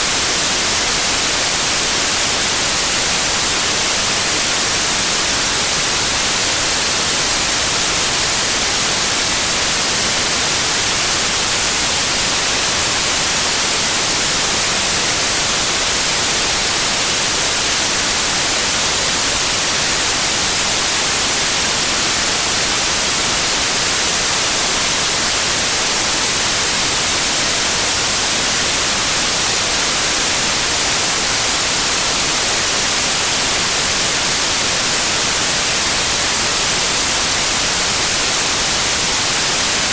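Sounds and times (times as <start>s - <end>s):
synthetic noise hiss: 0.0s - 39.9s.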